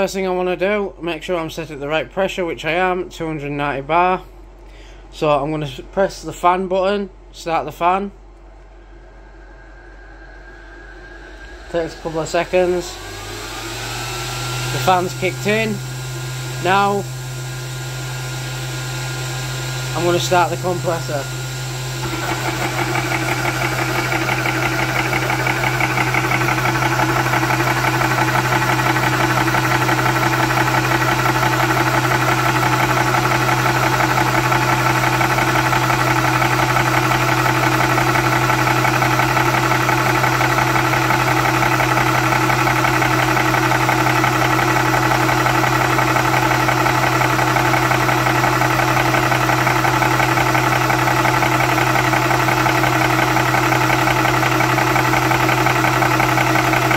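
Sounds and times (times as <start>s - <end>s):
cooling fan humming: 0.0s - 56.9s
air compressor running: 8.0s - 56.9s.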